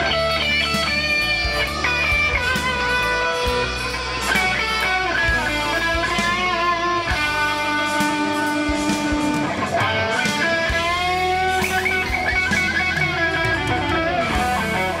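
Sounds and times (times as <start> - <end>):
electric guitar solo: 0.0 - 15.0.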